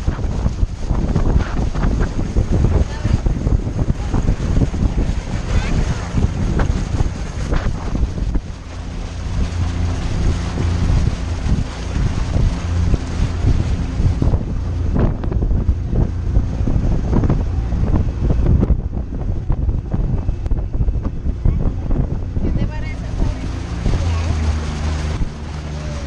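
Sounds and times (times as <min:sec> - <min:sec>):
boat engine drone: 0:00.0 - 0:26.0
water rushing from wake: 0:00.0 - 0:26.0
wind buffeting microphone: 0:00.0 - 0:26.0.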